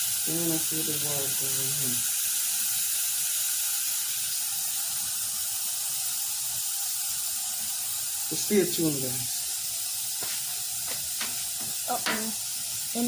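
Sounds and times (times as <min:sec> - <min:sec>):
air hissing from tire valve: 0:00.0 - 0:13.0.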